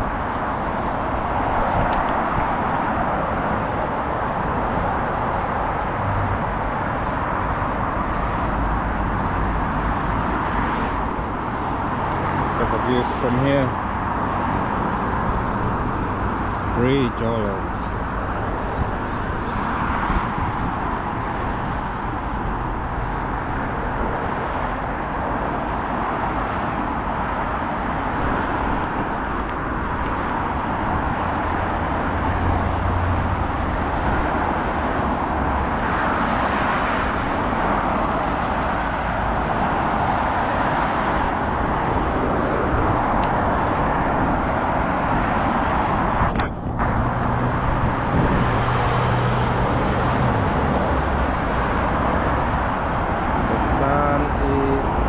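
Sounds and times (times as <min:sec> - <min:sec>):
road traffic hiss: 0:00.0 - 0:55.0.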